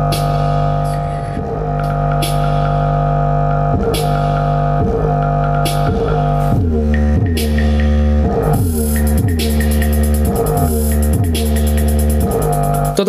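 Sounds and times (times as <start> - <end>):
bass-heavy electronic music: 0.0 - 13.0.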